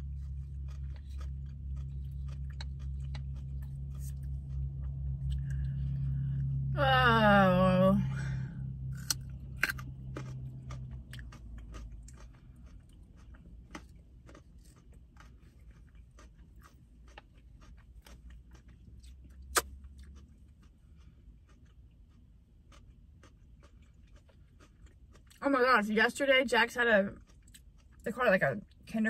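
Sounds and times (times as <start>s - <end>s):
crunching raw carrot: 0.0s - 6.6s, 8.2s - 25.4s.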